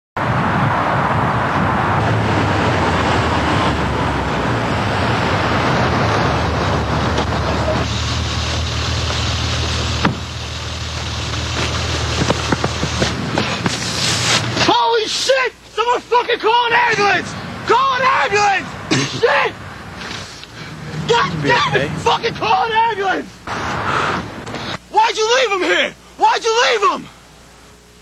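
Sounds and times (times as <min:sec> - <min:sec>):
car engine and road noise: 0:00.2 - 0:15.0, 0:15.6 - 0:24.9
steady low hum: 0:01.2 - 0:28.0.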